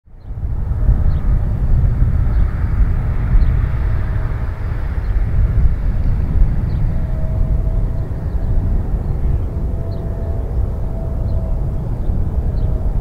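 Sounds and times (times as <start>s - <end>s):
jet engines rumbling and whining: 0.1s - 13.0s
wind rumble on microphone: 0.1s - 13.0s.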